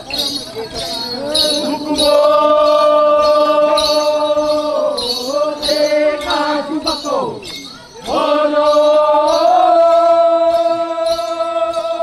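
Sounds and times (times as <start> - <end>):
jingling in time: 0.0 - 12.0
men chanting: 0.1 - 12.0.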